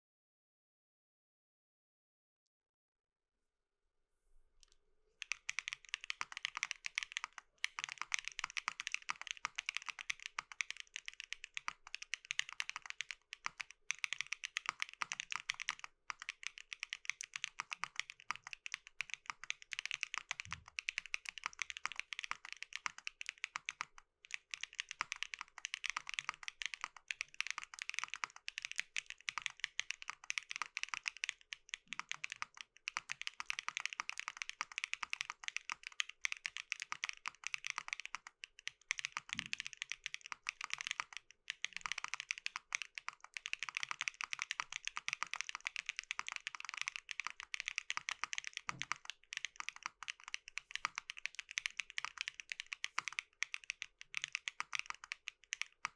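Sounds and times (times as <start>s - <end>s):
fast typing on mechanical keyboard: 5.2s - 55.9s.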